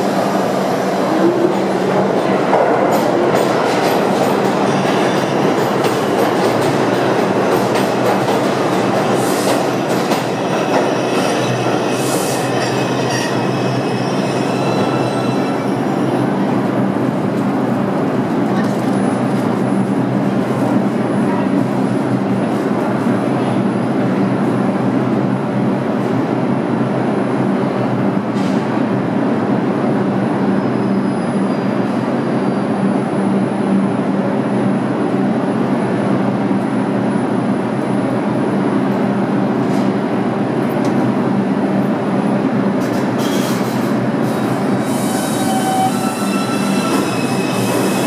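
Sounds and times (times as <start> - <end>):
subway train running: 0.0 - 48.0.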